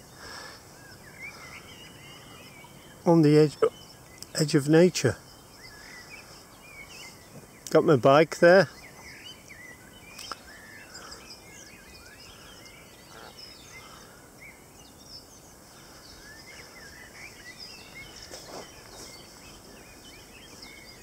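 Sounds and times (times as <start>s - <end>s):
faint songbird chorus: 0.0s - 21.0s.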